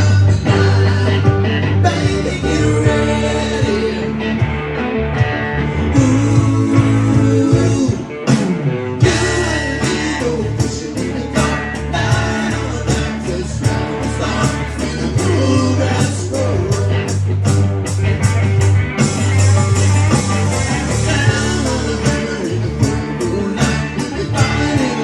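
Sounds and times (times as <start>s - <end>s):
band playing country-rock song: 0.0s - 25.0s.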